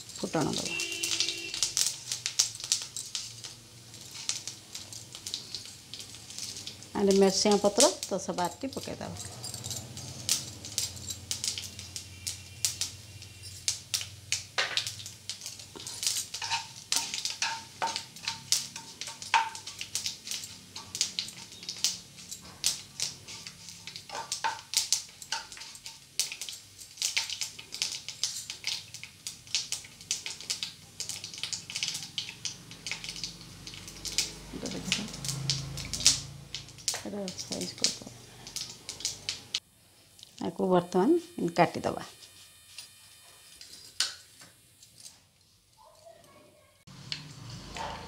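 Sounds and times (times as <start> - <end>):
seeds crackling in hot oil: 0.0 - 48.0.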